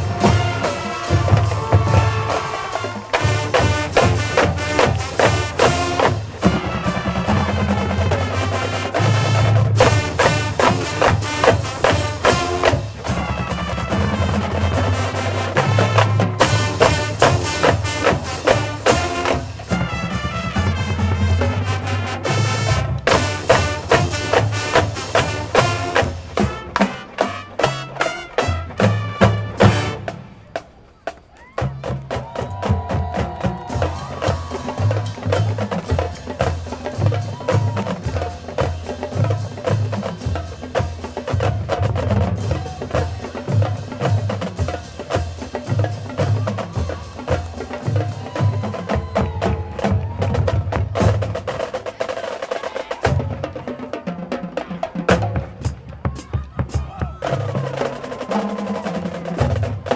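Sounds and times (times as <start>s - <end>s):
drumline beat: 0.0s - 59.9s
marching band playing: 0.0s - 59.9s.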